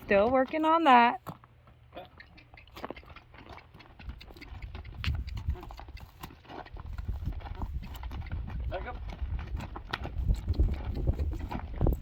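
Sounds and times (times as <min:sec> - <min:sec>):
horse hooves on trailer floor: 0:00.0 - 0:12.0.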